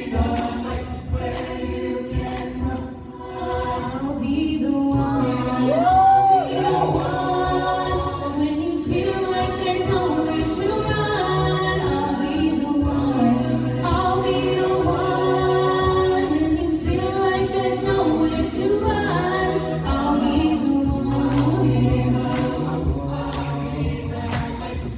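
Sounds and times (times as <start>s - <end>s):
a cappella group singing: 0.0s - 24.9s.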